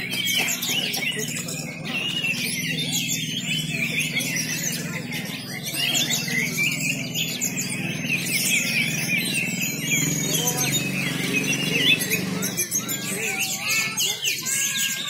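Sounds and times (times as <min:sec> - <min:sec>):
low background murmur: 0:00.0 - 0:15.0
songbirds chirping and trilling: 0:00.0 - 0:15.0.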